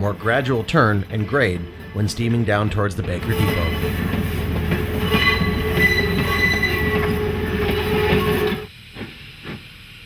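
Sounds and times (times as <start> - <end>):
high wheel squeal: 0.0 - 8.7
train rumbling on rails: 0.0 - 10.0.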